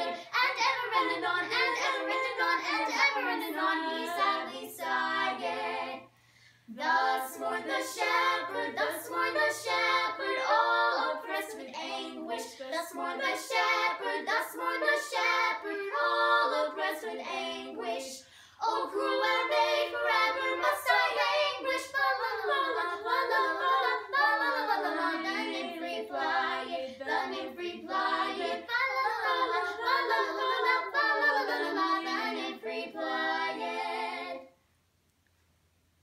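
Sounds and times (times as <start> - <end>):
girls singing a cappella harmony: 0.0 - 34.6.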